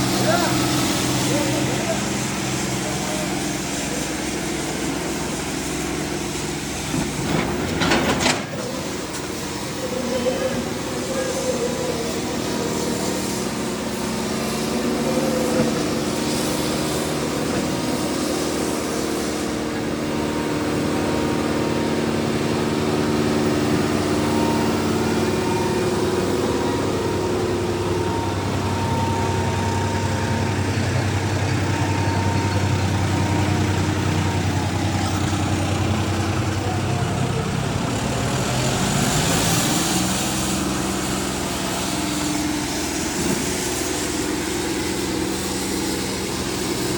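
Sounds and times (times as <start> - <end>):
tractor diesel engines running: 0.0 - 46.9.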